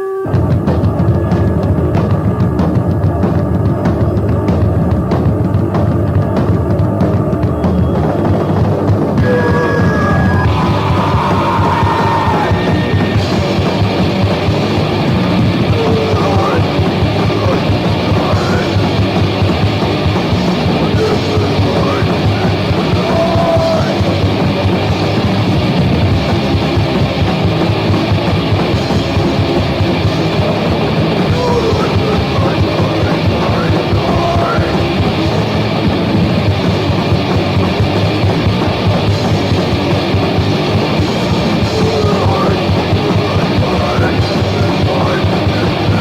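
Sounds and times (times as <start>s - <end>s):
fast punk rock music: 0.2s - 46.0s.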